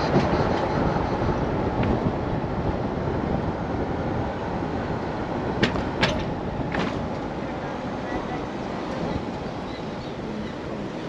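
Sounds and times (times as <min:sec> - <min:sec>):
road and engine noise in cab: 0:00.0 - 0:11.0.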